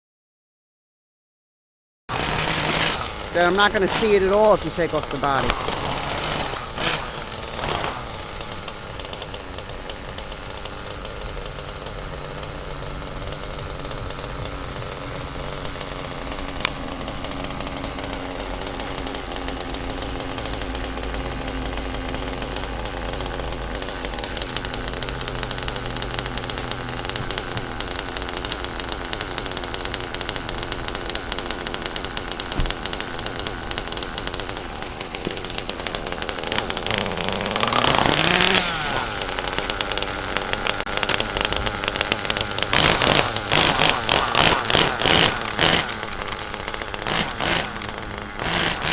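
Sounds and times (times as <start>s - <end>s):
small nitro engine running: 2.1s - 48.9s.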